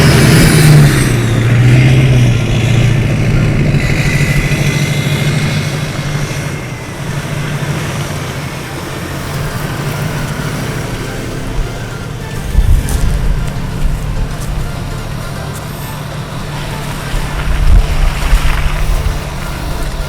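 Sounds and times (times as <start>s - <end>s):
car engine hum: 0.0s - 20.0s
road noise: 0.0s - 20.0s.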